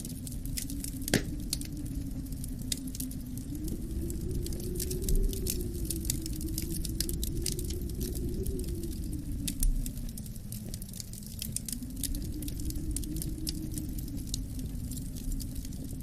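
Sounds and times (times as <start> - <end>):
low wind rumble: 0.0 - 16.0
wood fire crackling: 0.0 - 16.0.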